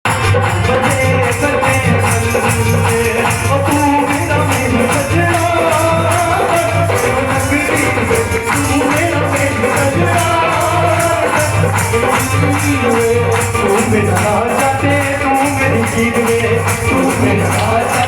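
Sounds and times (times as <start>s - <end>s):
devotional song: 0.1s - 18.0s
high percussion strokes: 0.1s - 18.0s.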